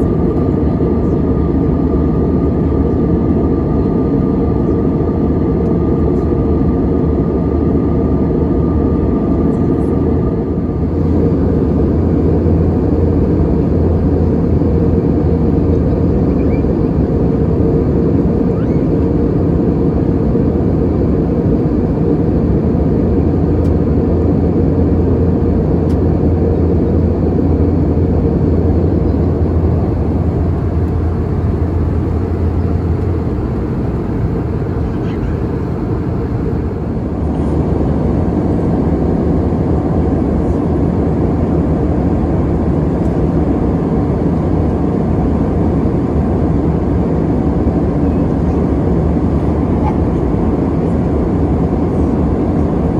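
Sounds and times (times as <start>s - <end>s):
airplane cabin engine noise: 0.0s - 52.9s.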